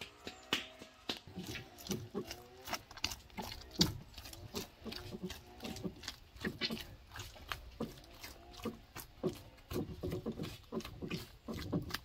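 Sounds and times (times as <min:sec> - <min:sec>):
hands kneading squelching dough: 0:00.0 - 0:12.0.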